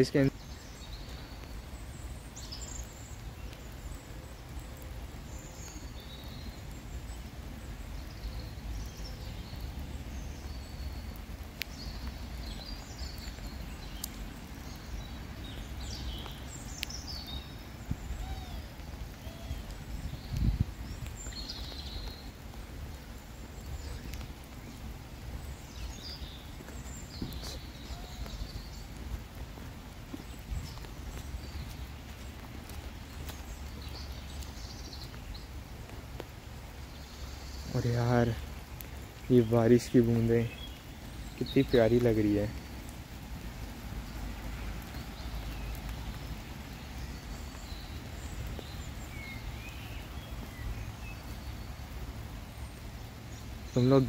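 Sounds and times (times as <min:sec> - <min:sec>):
songbirds chirping and whistling: 0:00.0 - 0:54.0.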